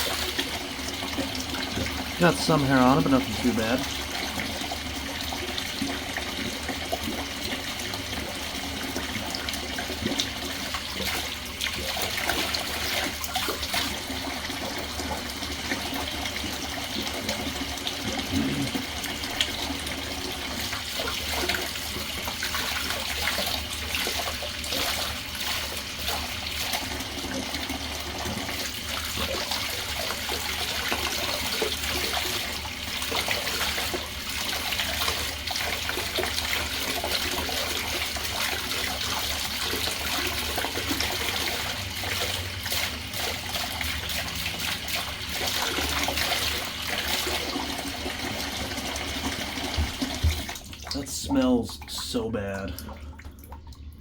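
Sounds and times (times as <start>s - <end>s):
faucet running: 0.0s - 54.0s.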